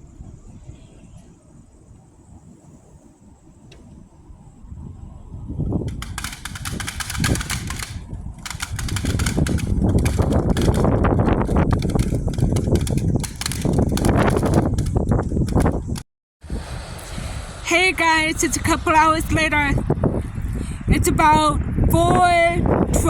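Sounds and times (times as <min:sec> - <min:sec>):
wind gusting on microphone: 0:00.0 - 0:23.0.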